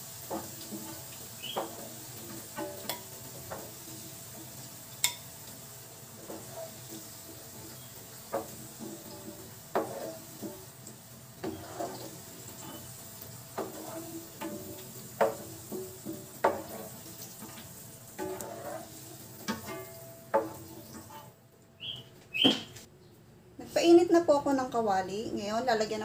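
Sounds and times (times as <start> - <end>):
spatula scraping and knocking pan: 0.0 - 21.4
vegetables sizzling in oil: 0.0 - 22.5.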